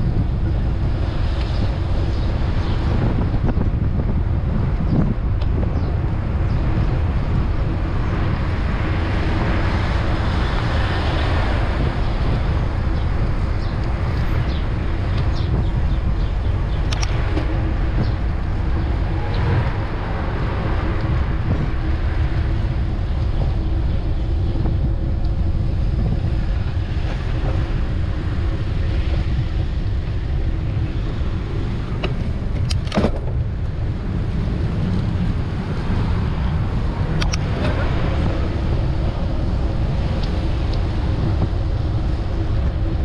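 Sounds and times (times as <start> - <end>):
road traffic noise: 0.0 - 43.0
wind rumbling on microphone: 0.0 - 43.0.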